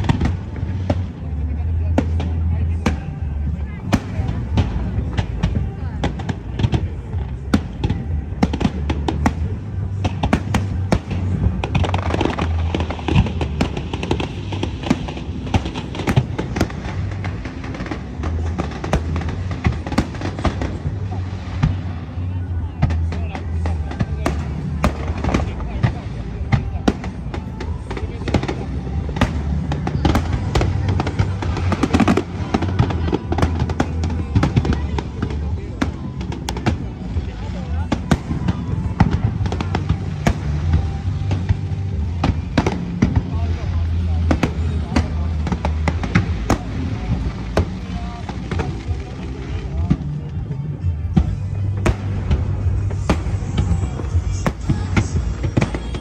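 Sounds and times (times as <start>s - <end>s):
fireworks bursting: 0.0s - 56.0s
low rumble: 0.0s - 56.0s
music playing: 0.0s - 56.0s.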